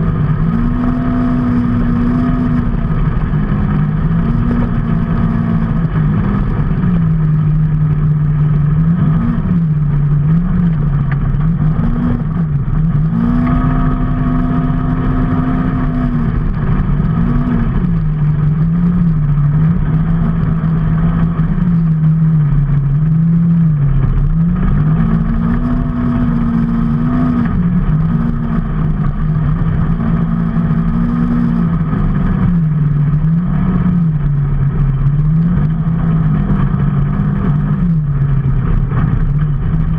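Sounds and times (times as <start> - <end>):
steady rushing noise: 0.0 - 39.9
vehicle engine revving: 0.0 - 39.9.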